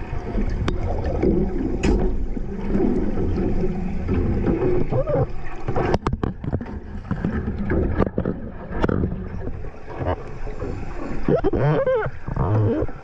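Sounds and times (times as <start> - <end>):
underwater rumble of water: 0.0 - 13.0.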